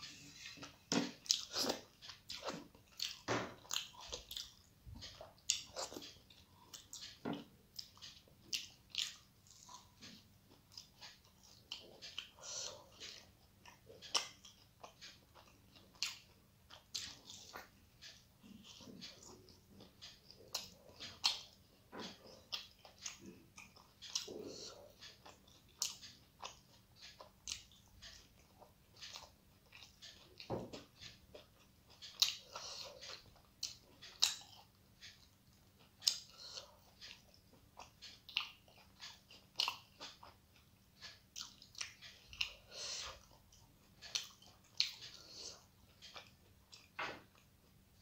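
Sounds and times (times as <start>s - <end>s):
chewing: 0.0s - 47.8s.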